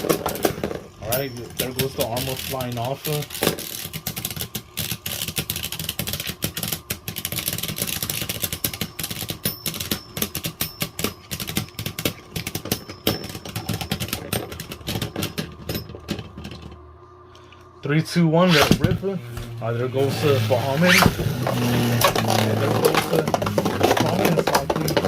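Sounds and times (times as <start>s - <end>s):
spinning hum: 0.0s - 25.0s.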